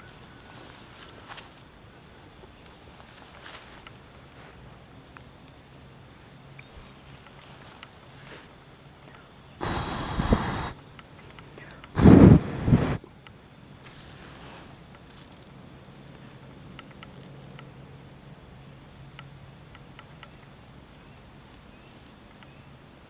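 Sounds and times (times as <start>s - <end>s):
high-pitched insect trill: 0.0s - 12.0s, 13.0s - 23.0s.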